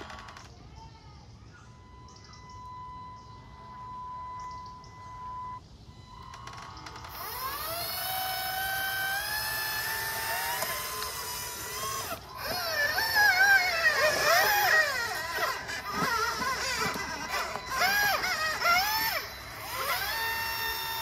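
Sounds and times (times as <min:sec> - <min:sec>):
electric motors whining: 0:00.0 - 0:00.8, 0:01.6 - 0:21.0.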